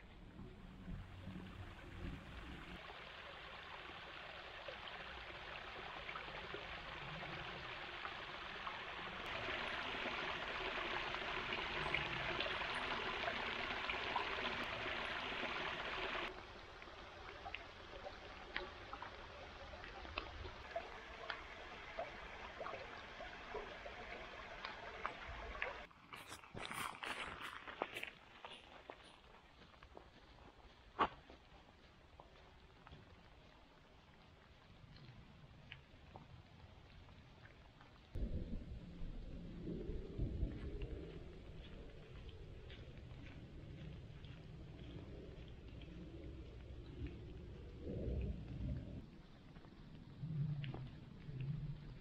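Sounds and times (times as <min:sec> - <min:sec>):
stream trickling over leaves: 0:00.9 - 0:38.2, 0:39.9 - 0:52.0.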